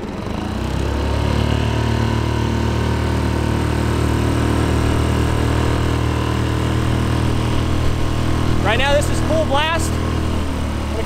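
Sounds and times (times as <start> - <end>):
outboard motor running at full throttle: 0.0 - 11.0.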